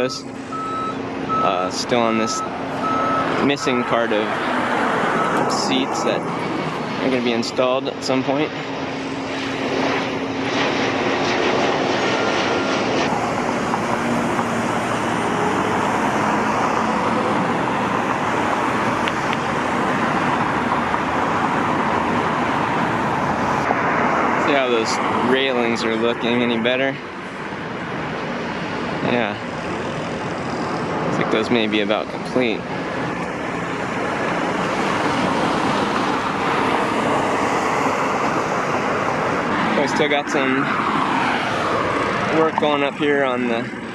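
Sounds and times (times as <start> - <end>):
aircraft rumble overhead: 0.0 - 43.9
road traffic passing: 0.0 - 43.9.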